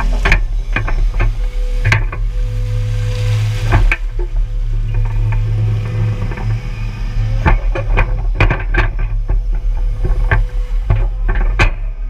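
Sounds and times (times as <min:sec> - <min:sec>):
excavator bucket clanking: 0:00.0 - 0:12.0
excavator engine droning: 0:00.0 - 0:12.0.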